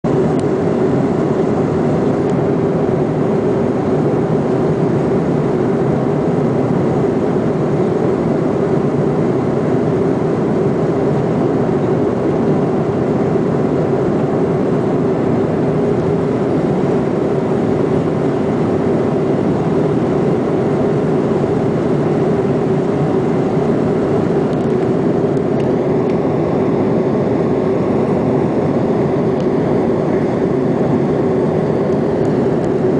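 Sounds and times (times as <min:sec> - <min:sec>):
jet engine and airflow drone: 0:00.0 - 0:32.9
constant low hum: 0:00.1 - 0:32.9.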